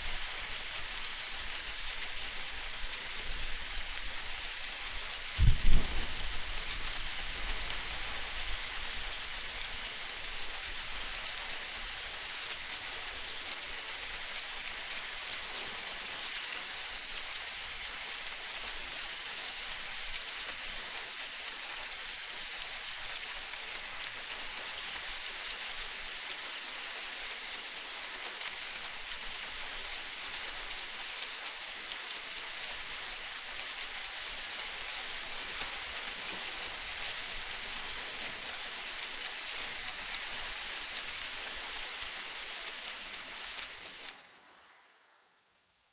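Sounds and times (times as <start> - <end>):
rain falling: 0.0 - 44.8.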